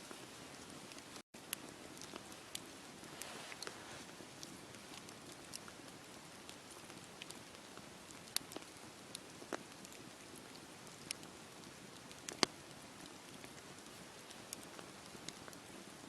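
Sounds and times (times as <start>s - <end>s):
fire crackling and popping: 0.1s - 16.0s.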